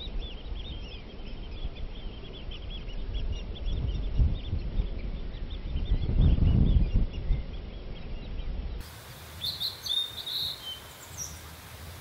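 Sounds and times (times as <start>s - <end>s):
bird whistling song: 0.0s - 8.8s, 9.4s - 11.5s
low rumbling wind: 0.0s - 12.0s.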